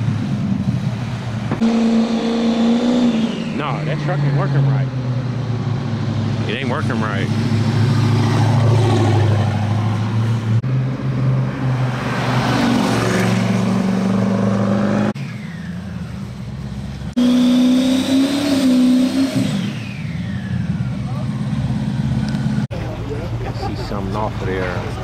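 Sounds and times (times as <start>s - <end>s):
high engine whine: 0.0s - 25.0s
race engines revving: 0.0s - 25.0s.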